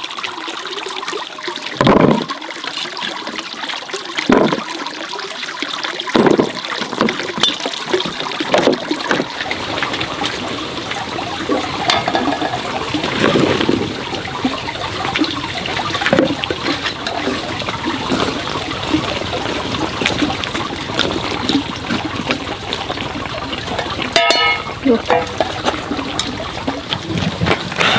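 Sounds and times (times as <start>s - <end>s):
water running and trickling: 0.0s - 27.9s
water splashing and sloshing: 0.0s - 27.9s.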